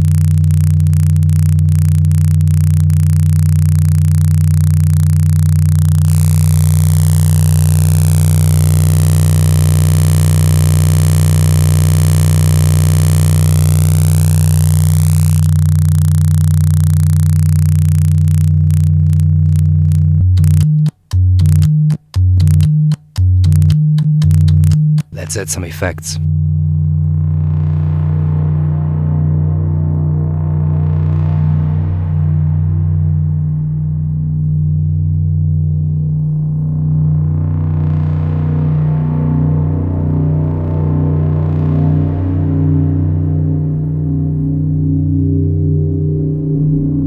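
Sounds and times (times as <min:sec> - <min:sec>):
distorted low two-tone drone: 0:00.0 - 0:47.0.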